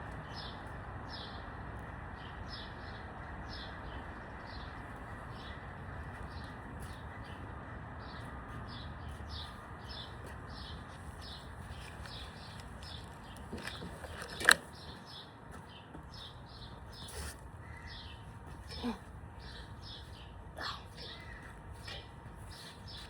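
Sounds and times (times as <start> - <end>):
steady outdoor hum: 0.0 - 23.0.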